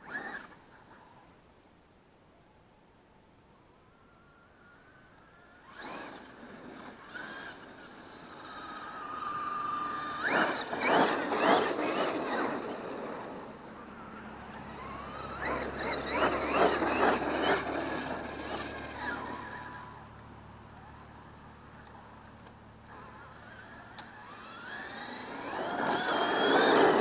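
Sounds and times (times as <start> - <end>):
rc truck electric motor whining: 0.0 - 0.6, 4.8 - 27.0.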